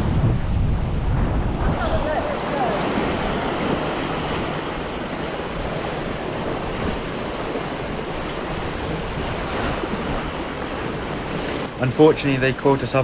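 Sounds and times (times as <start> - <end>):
wind buffeting microphone: 0.0 - 12.3
water rushing along hull: 0.0 - 13.0.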